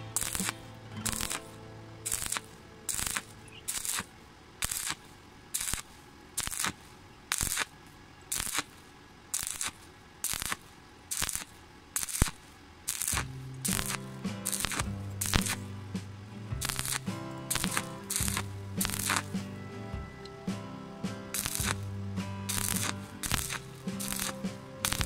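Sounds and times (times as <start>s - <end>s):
welding arc crackling: 0.0s - 19.5s, 21.3s - 25.0s
faint background music: 0.0s - 25.0s.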